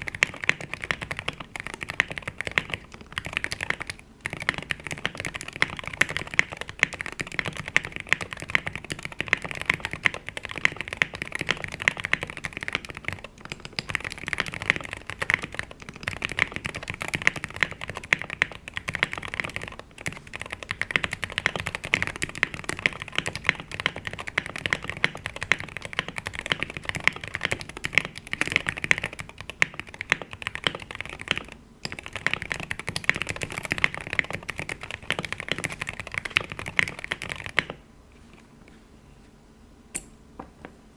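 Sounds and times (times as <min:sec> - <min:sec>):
fast keyboard typing: 0:00.0 - 0:37.8.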